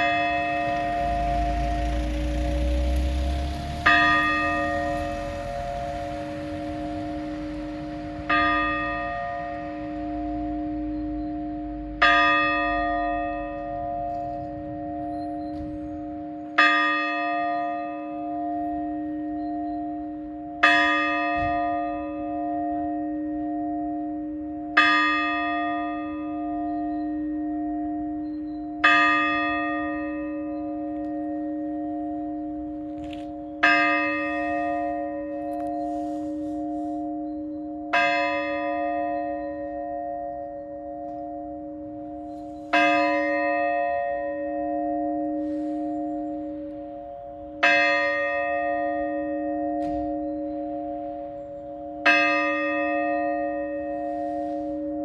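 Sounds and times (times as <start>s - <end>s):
large church bell tolling: 0.0s - 55.0s.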